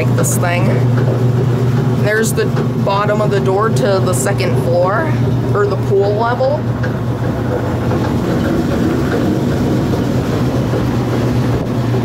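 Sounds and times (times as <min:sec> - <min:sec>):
electric motor hum: 0:00.0 - 0:12.0
mechanical drive rumble: 0:00.0 - 0:12.0.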